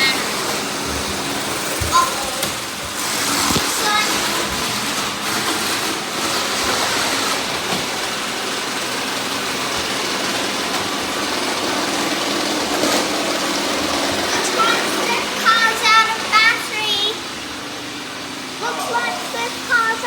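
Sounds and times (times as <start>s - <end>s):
robot vacuum cleaners whirring: 0.0s - 20.0s.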